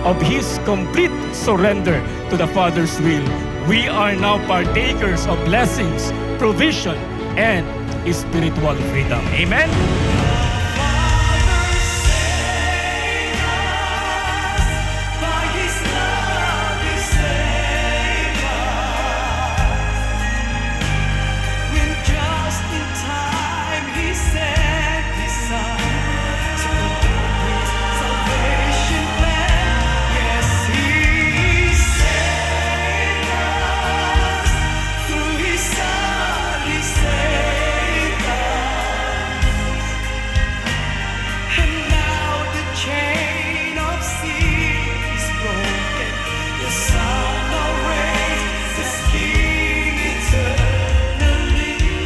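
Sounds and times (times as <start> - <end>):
choir singing worship music: 0.0 - 52.0
sustained bass: 0.0 - 52.0.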